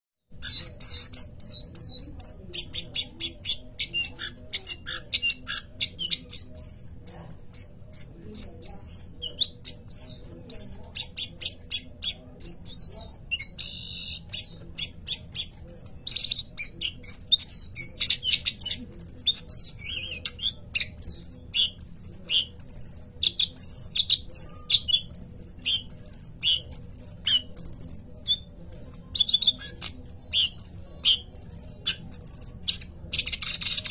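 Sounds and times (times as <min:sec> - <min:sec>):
songbird singing: 0:00.3 - 0:33.9.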